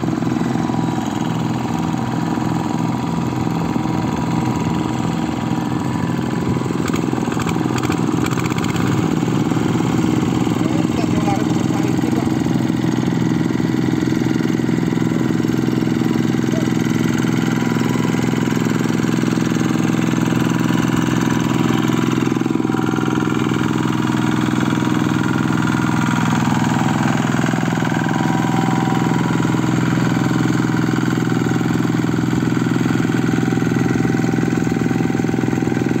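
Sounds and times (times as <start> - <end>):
diesel engine running steadily: 0.0 - 36.0.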